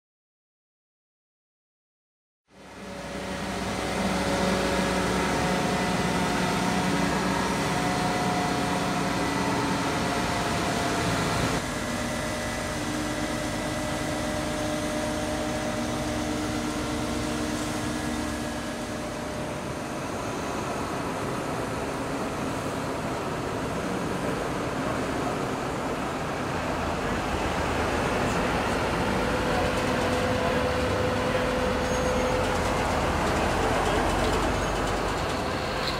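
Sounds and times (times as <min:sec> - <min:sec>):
crane diesel engine running: 0:02.6 - 0:35.9
whining tones: 0:02.8 - 0:23.1, 0:26.9 - 0:35.9.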